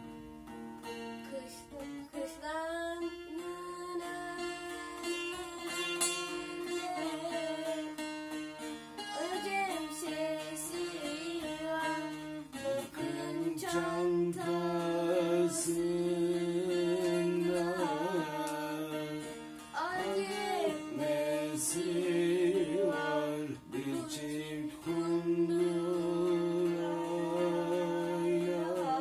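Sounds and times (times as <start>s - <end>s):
plucked strings: 0.0s - 29.0s
person singing ornamented melody: 1.3s - 8.0s, 9.0s - 29.0s.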